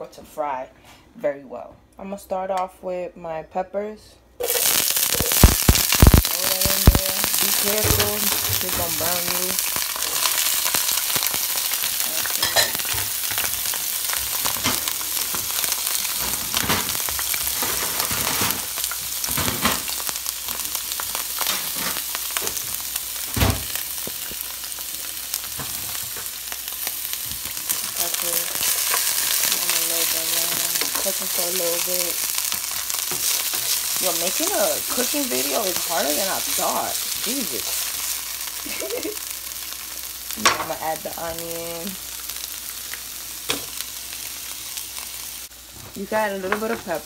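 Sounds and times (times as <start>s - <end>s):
peppers sizzling in oil: 4.4s - 47.0s.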